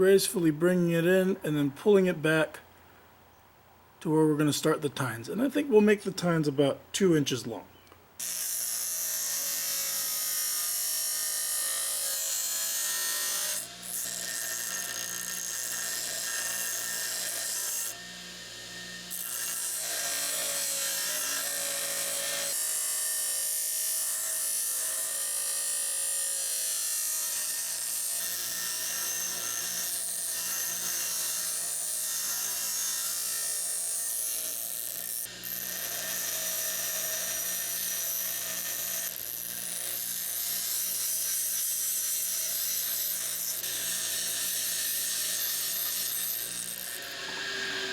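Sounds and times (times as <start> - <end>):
grinder grinding steel: 8.2 - 47.9.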